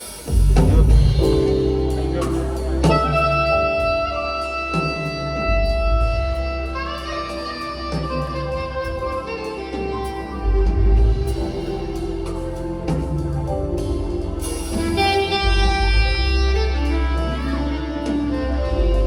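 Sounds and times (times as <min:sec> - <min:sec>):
backing band playing: 0:00.0 - 0:19.0
higher held melody line: 0:00.0 - 0:19.0
saxophone melody: 0:00.6 - 0:19.0.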